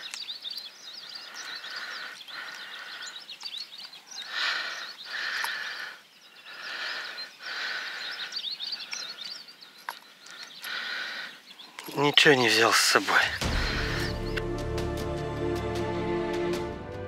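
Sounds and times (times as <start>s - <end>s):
birds chirping and calling: 0.0s - 14.5s.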